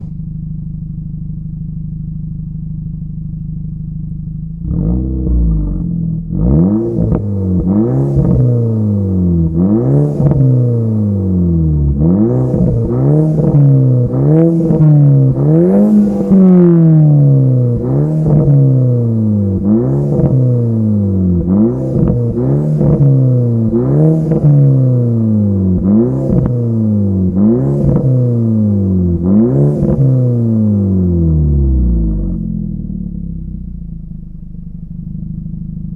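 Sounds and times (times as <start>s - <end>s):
car engine idling and revving: 0.0s - 35.9s
exhaust cracks: 0.0s - 35.9s.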